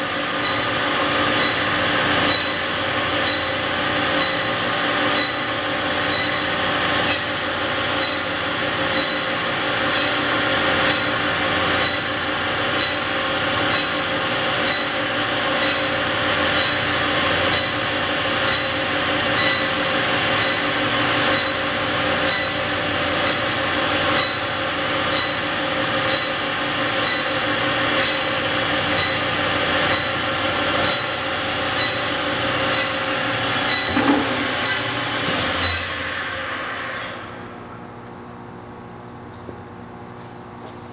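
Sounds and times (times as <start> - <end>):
bandsaw humming: 0.0 - 37.6.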